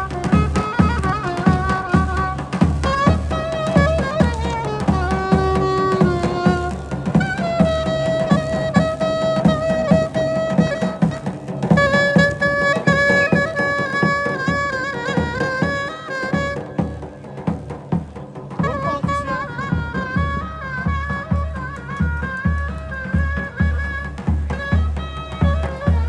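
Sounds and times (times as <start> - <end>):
large drum beats: 0.0 - 26.0
reed pipe holding long notes: 0.0 - 26.0.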